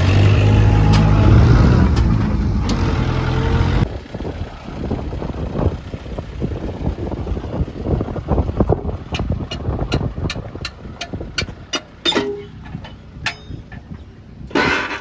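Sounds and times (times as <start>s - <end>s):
low engine rumble: 0.0s - 14.6s.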